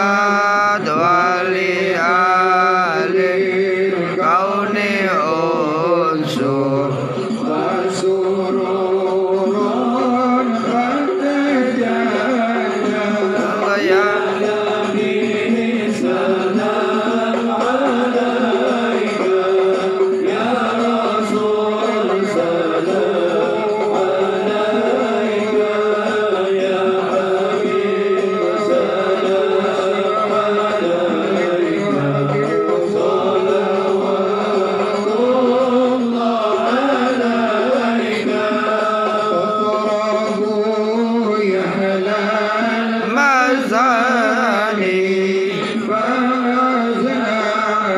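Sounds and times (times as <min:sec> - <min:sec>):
men chanting a devotional song: 0:00.0 - 0:47.9.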